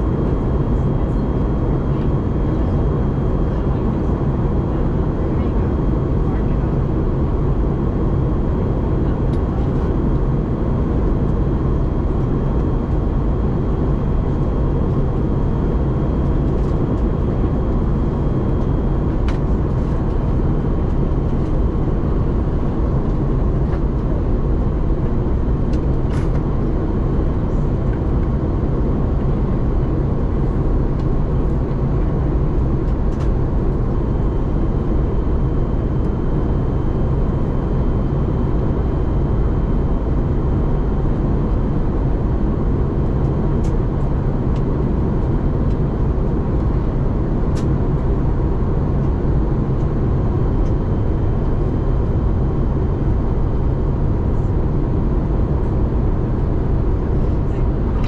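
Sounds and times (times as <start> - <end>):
airplane cabin roar: 0.0 - 58.0.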